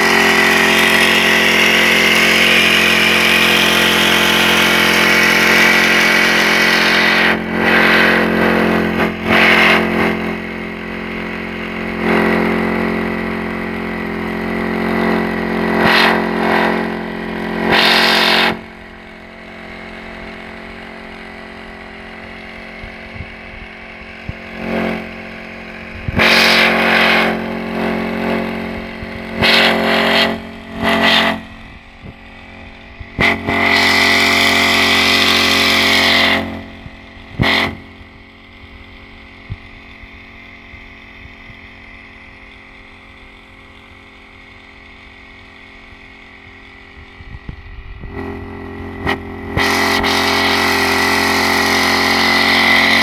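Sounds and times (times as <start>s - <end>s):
sprayer hissing bursts: 0.0s - 41.2s, 44.7s - 53.0s
small engine running: 0.0s - 53.0s.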